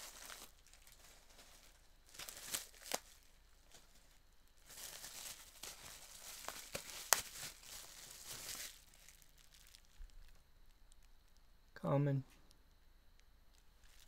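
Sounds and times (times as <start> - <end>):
bubble wrap crinkling: 0.0 - 11.6, 12.5 - 14.0.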